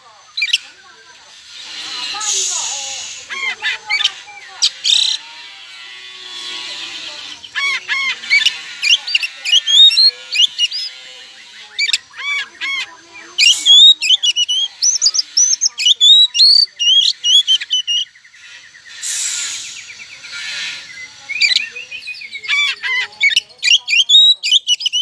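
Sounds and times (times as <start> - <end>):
bird singing varied song: 0.0 - 25.0.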